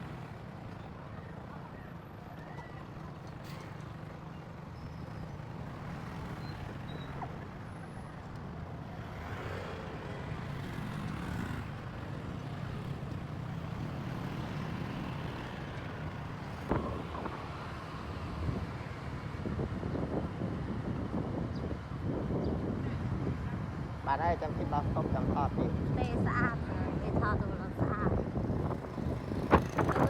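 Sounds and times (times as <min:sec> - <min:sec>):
motorcycle engine and road rumble: 0:00.0 - 0:30.0.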